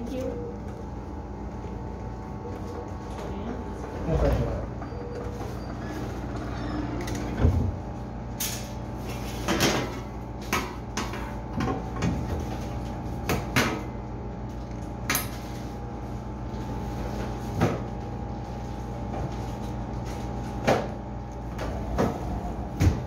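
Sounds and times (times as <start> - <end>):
fridge humming: 0.0 - 23.0.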